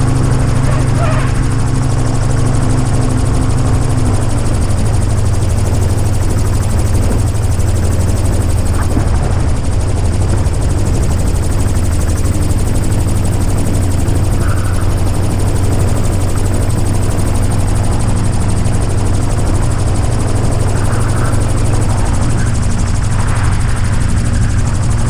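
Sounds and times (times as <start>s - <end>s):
aircraft engine and propeller running: 0.0s - 25.0s
wind rush: 0.0s - 25.0s.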